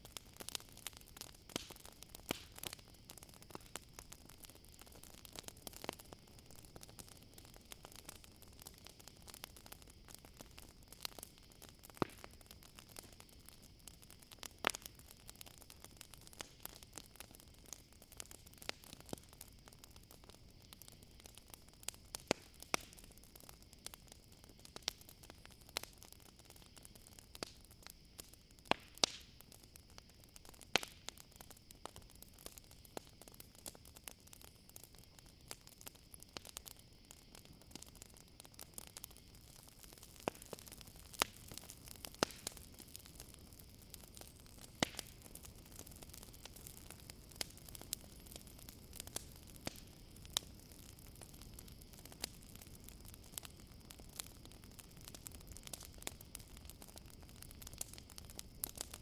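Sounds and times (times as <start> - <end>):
campfire pops and snaps: 0.0 - 59.0
cricket trill: 0.2 - 59.0.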